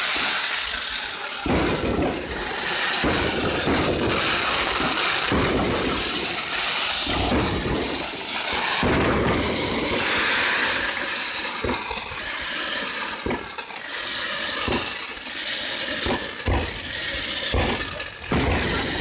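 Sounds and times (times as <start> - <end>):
fireworks bangs: 0.0 - 19.0
fireworks hissing: 0.0 - 19.0.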